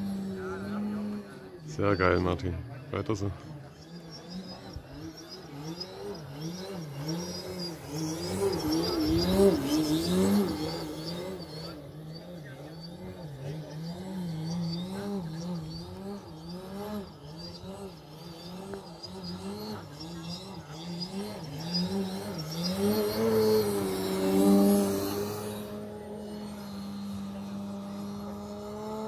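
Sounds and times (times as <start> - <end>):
model plane electric motor and propeller: 0.0 - 29.0.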